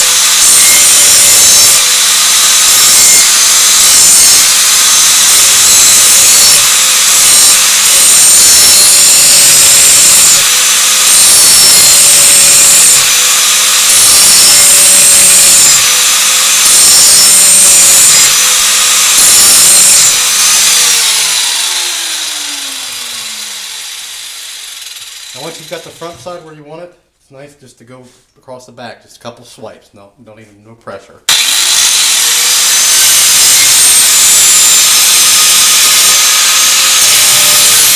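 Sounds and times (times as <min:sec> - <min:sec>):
grinder disc spinning down: 0:00.0 - 0:26.3, 0:31.3 - 0:37.9
angle grinder grinding steel blade: 0:00.0 - 0:26.4, 0:31.3 - 0:37.9.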